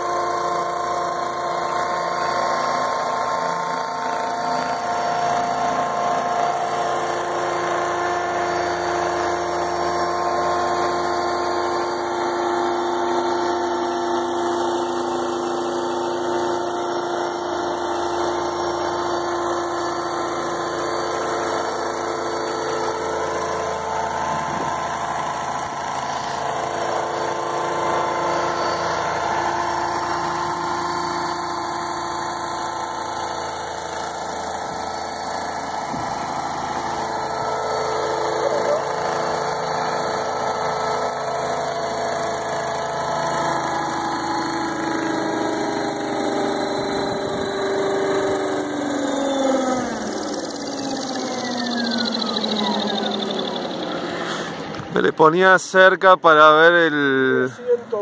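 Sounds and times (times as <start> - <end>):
model helicopter hovering: 0.0 - 58.0.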